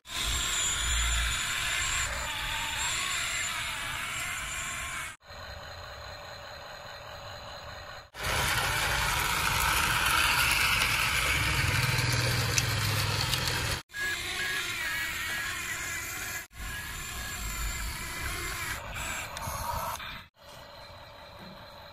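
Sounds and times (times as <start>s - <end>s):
toy excavator motors and gears: 0.0s - 21.9s.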